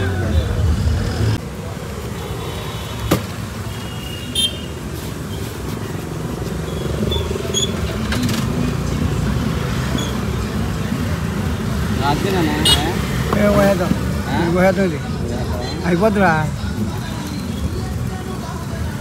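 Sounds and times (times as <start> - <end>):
roadside traffic rumble: 0.0 - 19.0.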